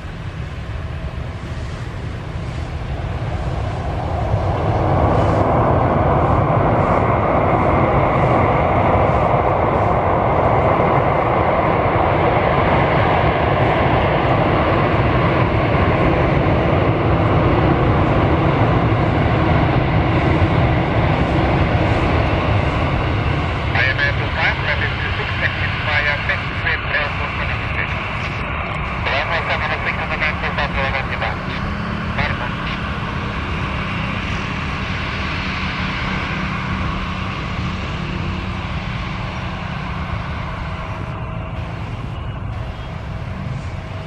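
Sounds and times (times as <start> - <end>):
jet airliner roar on takeoff: 0.0 - 44.0.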